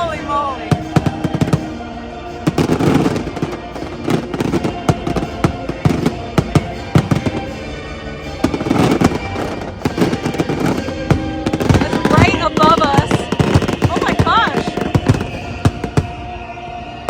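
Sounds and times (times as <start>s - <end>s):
fireworks shells bursting: 0.0s - 16.3s
music soundtrack: 0.0s - 17.0s.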